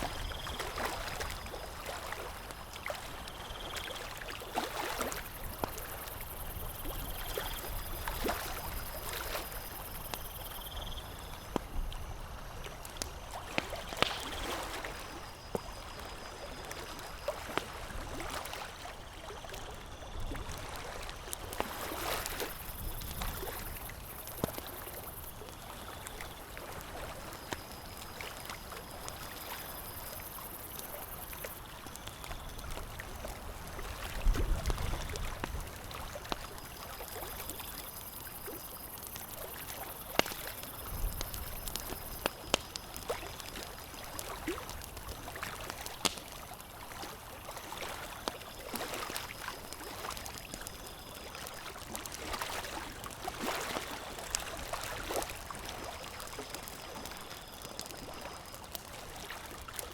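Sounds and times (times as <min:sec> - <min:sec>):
lake water lapping: 0:00.0 - 0:59.9
campfire crackling and popping: 0:05.2 - 0:17.7, 0:21.0 - 0:59.9.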